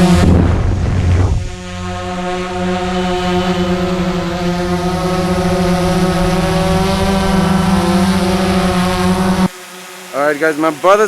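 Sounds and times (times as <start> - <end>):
drone motors hum-whine: 0.0 - 11.0.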